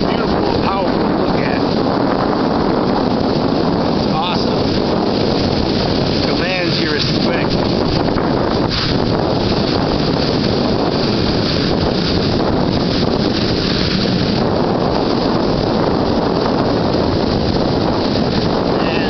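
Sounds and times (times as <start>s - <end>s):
waves breaking on a beach: 0.0s - 19.0s
wind buffeting microphone: 0.0s - 19.0s.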